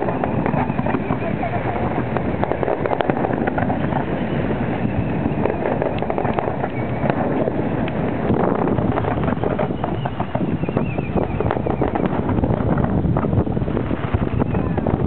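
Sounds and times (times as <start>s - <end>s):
fireworks crackling and popping: 0.0s - 15.0s
steady rumble: 0.0s - 15.0s.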